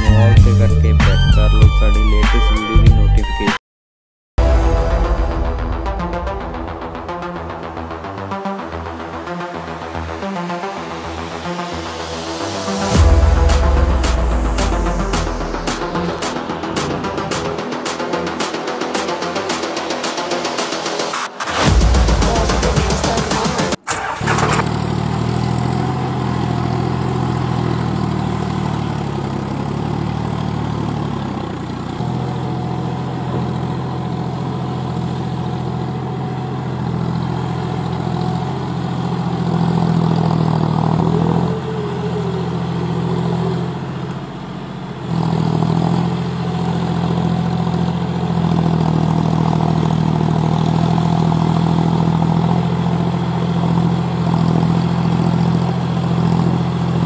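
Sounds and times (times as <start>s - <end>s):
tractor engine idling: 10.8s - 57.0s.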